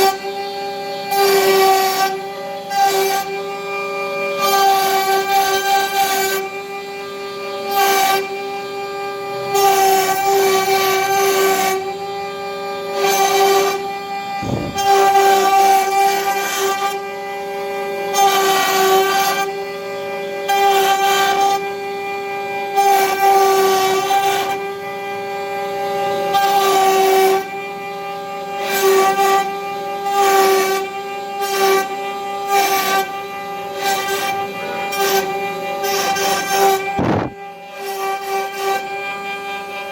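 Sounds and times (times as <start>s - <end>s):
bit carving wood: 0.0s - 39.9s
router spindle whine: 0.0s - 39.9s.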